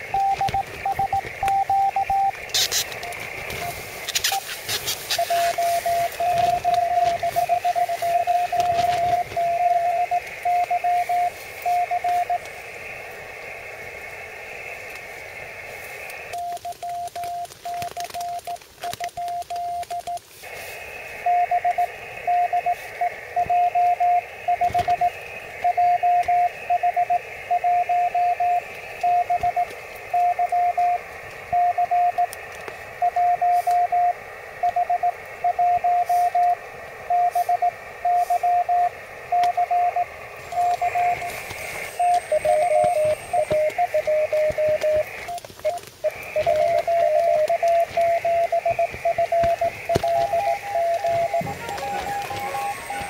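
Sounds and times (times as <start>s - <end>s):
morse code tones: 0.0s - 12.5s, 16.2s - 53.0s
receiver hiss: 0.0s - 53.0s.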